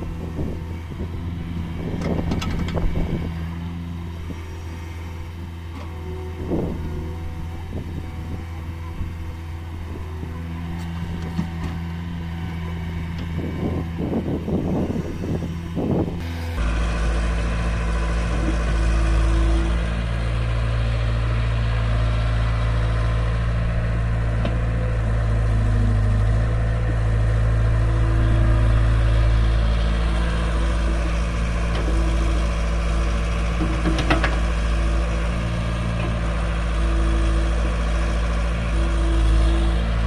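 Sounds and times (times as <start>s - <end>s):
deep engine drone: 0.0s - 40.0s
diesel engines running: 0.0s - 40.0s.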